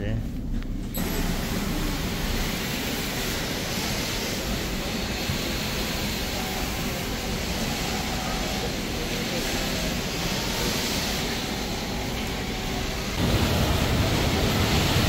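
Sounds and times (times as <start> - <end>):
factory machines running: 0.0 - 15.0.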